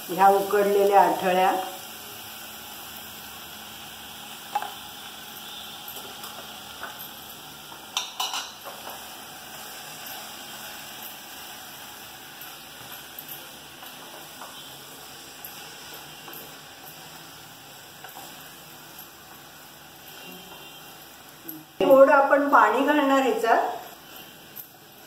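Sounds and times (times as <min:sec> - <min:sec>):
onions sizzling in a pot: 0:00.0 - 0:25.0.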